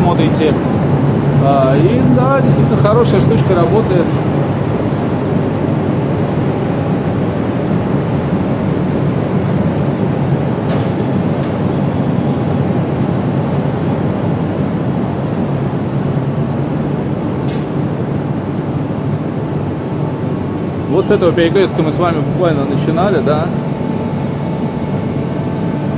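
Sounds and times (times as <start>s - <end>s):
city street rumble: 0.0s - 25.9s
faint hum: 0.0s - 25.9s.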